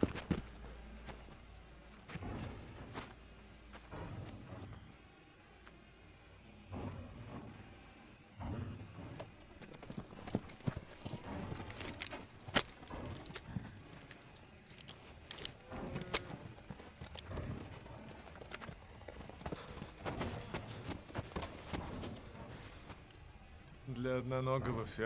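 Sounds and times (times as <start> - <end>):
horse hooves clip-clopping on dirt: 0.0 - 4.8, 8.4 - 24.0.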